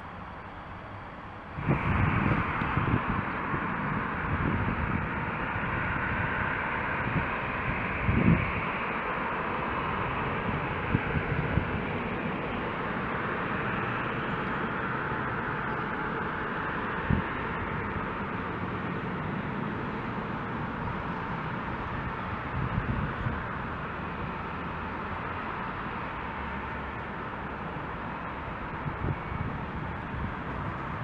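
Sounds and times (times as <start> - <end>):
train rolling slowly: 0.0 - 31.0.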